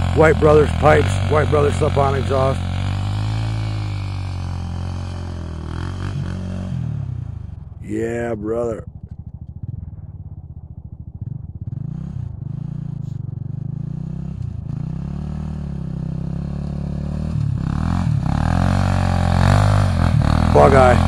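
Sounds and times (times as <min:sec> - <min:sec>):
quad engine revving: 0:00.0 - 0:08.8, 0:11.2 - 0:21.0.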